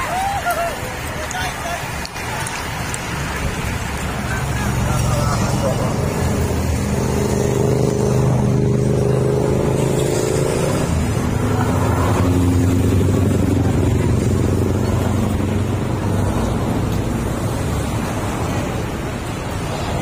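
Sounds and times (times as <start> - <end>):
vehicle engines passing slowly: 0.0 - 20.0.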